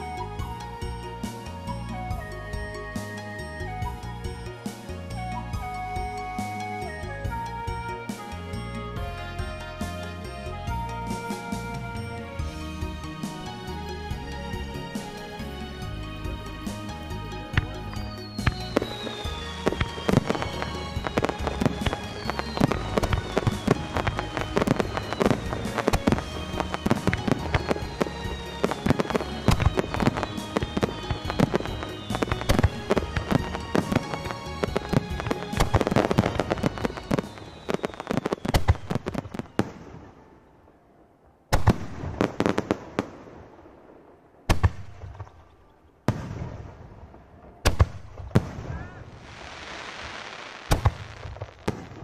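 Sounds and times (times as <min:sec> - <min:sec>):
firework bursts and crackling: 0:06.4 - 0:40.3, 0:41.5 - 0:45.4, 0:46.1 - 0:52.0.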